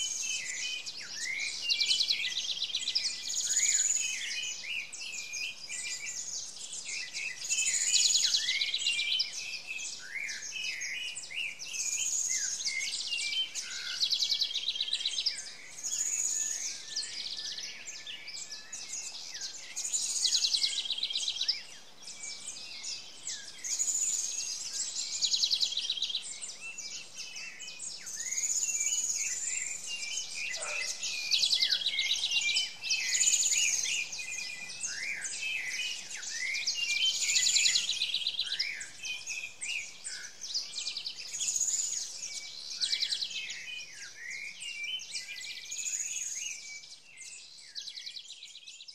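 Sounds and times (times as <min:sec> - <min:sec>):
bird chirps: 0:00.0 - 0:48.9
songbird whistles and trills: 0:00.0 - 0:48.9.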